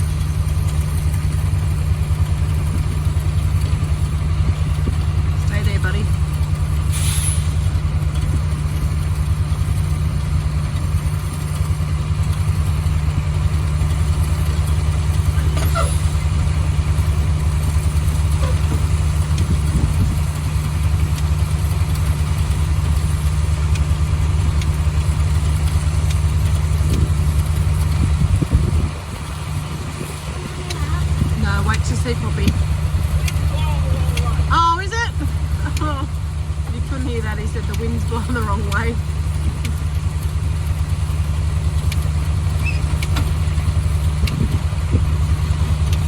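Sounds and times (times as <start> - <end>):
large vehicle engine running: 0.0 - 46.0.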